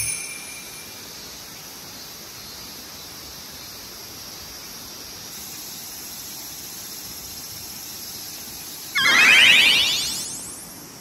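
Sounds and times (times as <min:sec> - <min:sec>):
insects hissing: 0:00.0 - 0:10.9.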